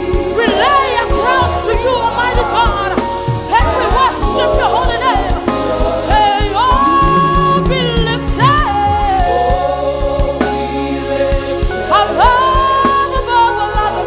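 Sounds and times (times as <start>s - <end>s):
backing voices singing: 0.0s - 14.0s
band playing steady beat: 0.0s - 14.0s
lead singer holding notes: 0.0s - 14.0s.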